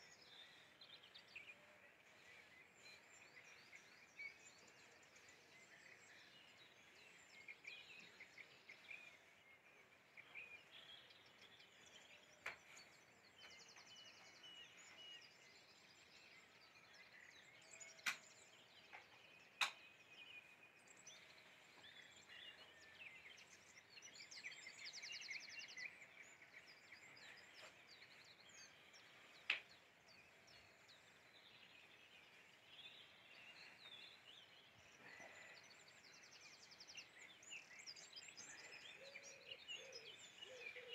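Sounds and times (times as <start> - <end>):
distant birds chirping: 0.0 - 40.9.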